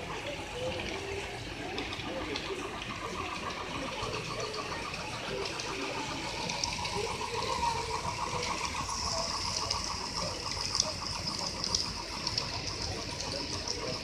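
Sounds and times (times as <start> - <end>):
model railcar motor whirr: 0.0 - 14.0
wheel clicking: 0.0 - 14.0.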